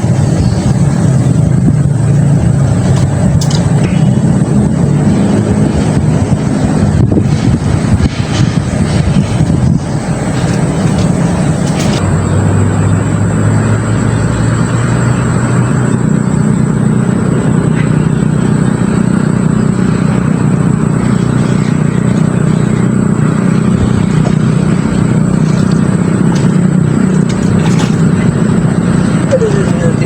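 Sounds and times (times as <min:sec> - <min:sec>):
engine-like hum: 0:00.0 - 0:30.0.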